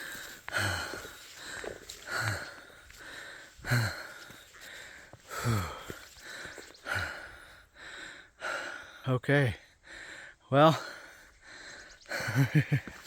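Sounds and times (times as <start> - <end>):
man breathing hard: 0.0 - 12.5.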